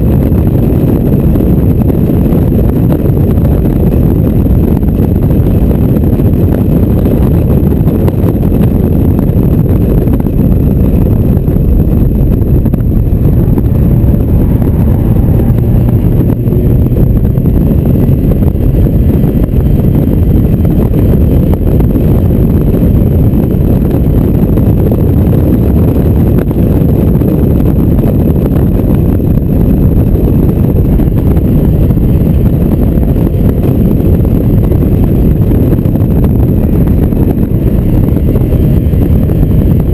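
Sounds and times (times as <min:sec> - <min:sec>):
car engine running: 0:00.0 - 0:39.9
wind buffeting microphone: 0:00.0 - 0:39.9.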